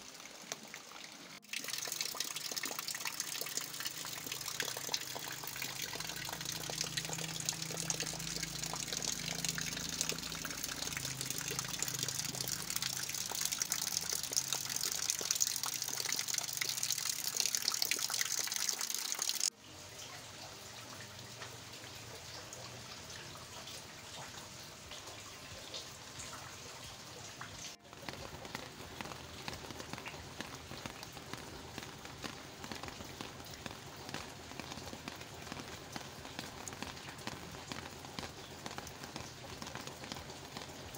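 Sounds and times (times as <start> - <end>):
rain falling: 0.0 - 19.6, 20.8 - 40.9
water pouring off roof eaves: 0.0 - 40.9.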